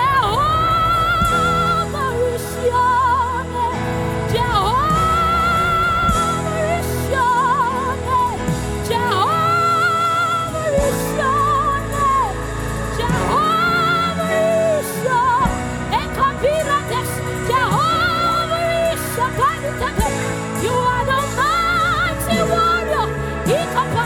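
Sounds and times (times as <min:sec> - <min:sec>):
band accompaniment: 0:00.0 - 0:24.0.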